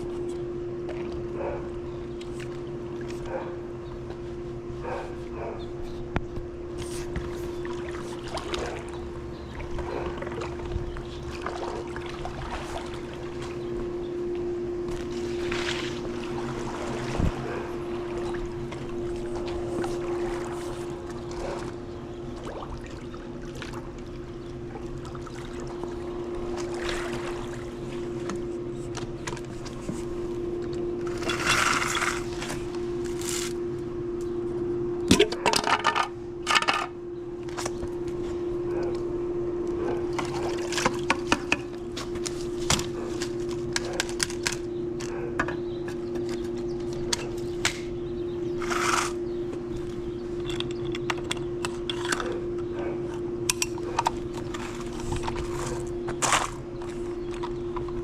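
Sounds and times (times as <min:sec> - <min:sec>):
steady hum: 0:00.0 - 0:58.0.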